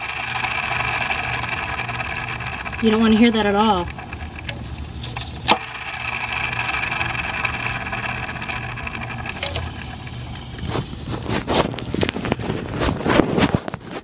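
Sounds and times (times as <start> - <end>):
pulley click: 0.0 - 12.4
pulley whirring: 0.0 - 14.0.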